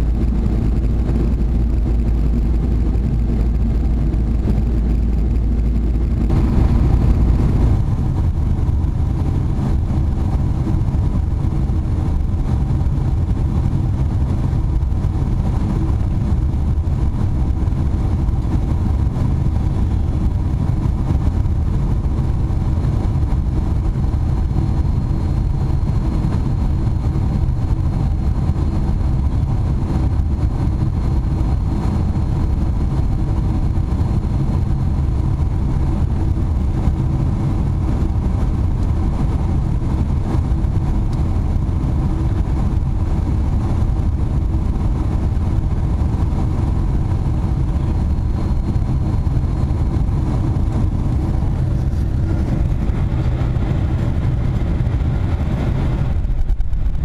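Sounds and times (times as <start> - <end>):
rushing air: 0.0 - 25.5, 34.6 - 57.0
jet engines rumbling: 0.0 - 57.0.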